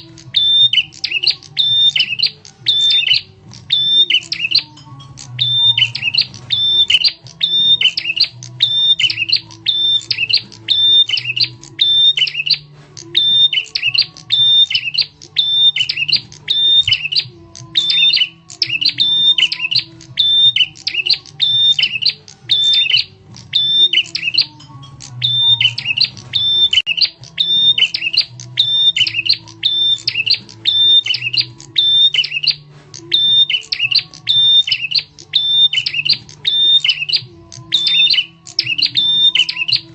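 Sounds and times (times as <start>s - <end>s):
bird calling sharp notes: 0.0s - 39.9s.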